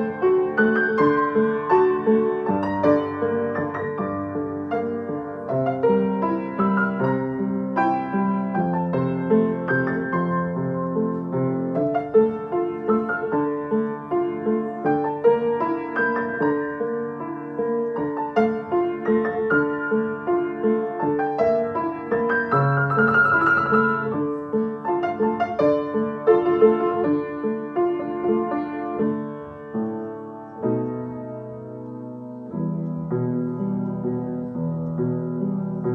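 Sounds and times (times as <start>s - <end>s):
upright piano piece: 0.0s - 35.9s.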